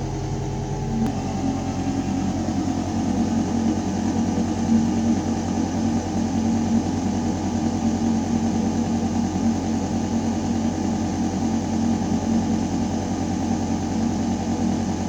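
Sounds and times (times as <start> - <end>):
ventilation system humming: 0.0 - 15.0.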